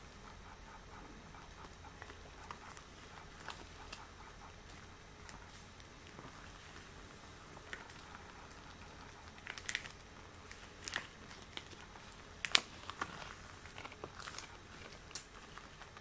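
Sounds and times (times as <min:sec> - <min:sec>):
latex gloves crinkling: 0:02.0 - 0:16.0.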